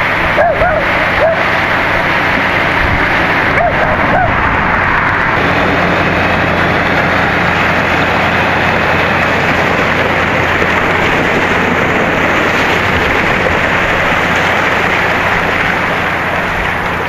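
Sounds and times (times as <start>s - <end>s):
boat diesel engine droning: 0.0s - 17.0s
water rushing: 0.0s - 17.0s.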